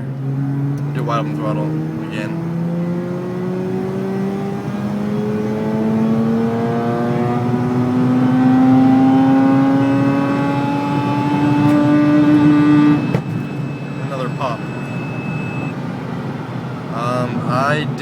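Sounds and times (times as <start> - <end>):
rotary engine revving hard: 0.0 - 15.7.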